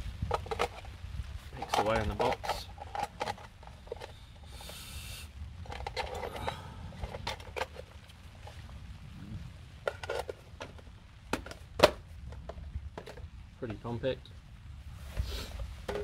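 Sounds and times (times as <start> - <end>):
rustle or scrape: 0.0 - 11.7, 14.8 - 16.0.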